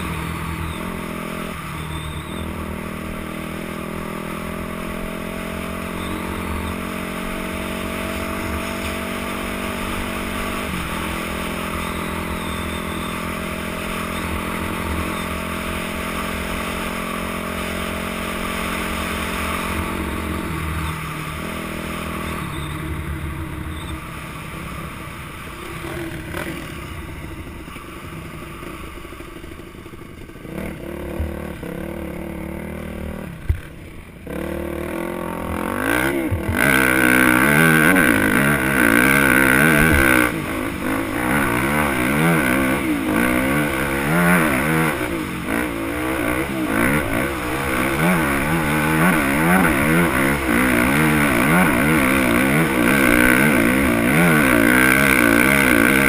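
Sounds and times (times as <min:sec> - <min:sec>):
dirt bike engine running: 0:00.0 - 0:56.0
ground noise: 0:02.7 - 0:56.0.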